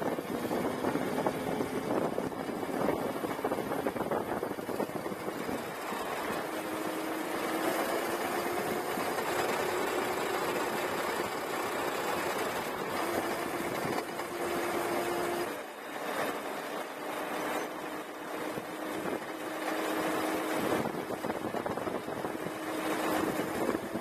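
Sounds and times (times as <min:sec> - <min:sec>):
wind noise: 0:00.0 - 0:15.6, 0:18.4 - 0:19.3, 0:19.9 - 0:24.0.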